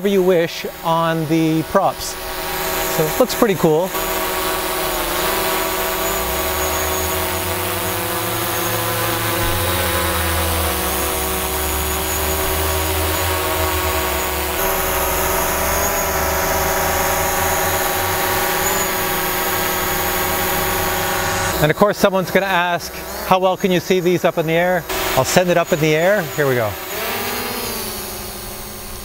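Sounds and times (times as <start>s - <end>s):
drone hovering buzz: 0.0s - 29.0s.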